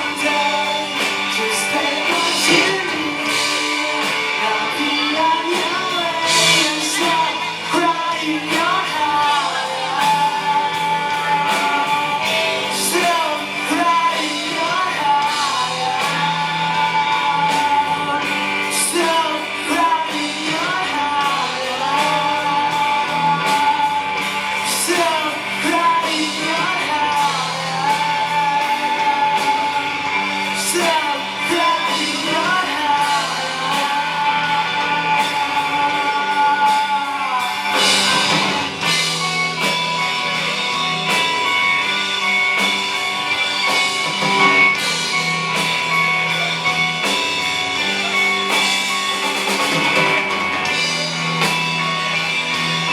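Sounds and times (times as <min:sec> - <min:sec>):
live rock band playing: 0:00.0 - 0:52.9
person singing: 0:00.0 - 0:52.9.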